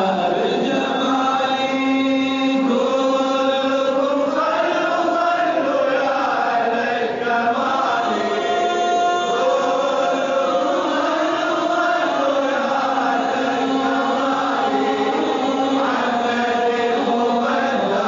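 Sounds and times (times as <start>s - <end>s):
man chanting devotional song: 0.0s - 18.0s.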